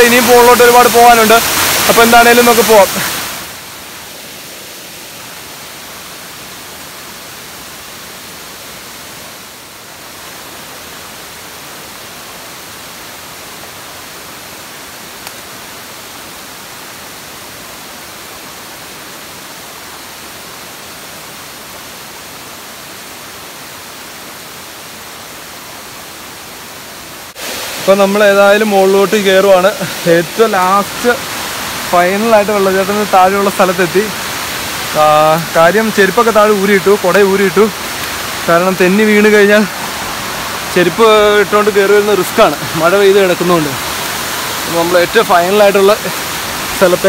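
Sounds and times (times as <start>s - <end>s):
water rushing over rock: 0.0s - 21.4s, 27.2s - 47.0s.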